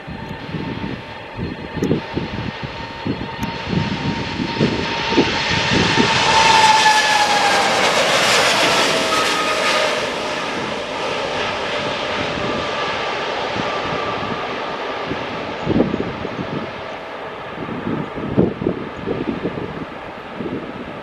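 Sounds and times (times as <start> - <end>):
jet engine whine: 0.0 - 21.0
jet engines roaring: 0.0 - 21.0
wind on microphone: 0.0 - 21.0.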